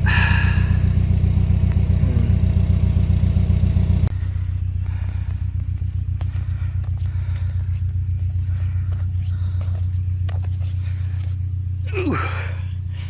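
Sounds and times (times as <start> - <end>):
boat engine idling: 0.0 - 11.1.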